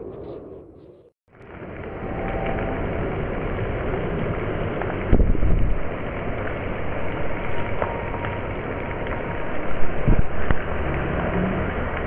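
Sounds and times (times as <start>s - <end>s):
low rumble: 1.3s - 12.0s
rain and wind rushing: 1.3s - 12.0s.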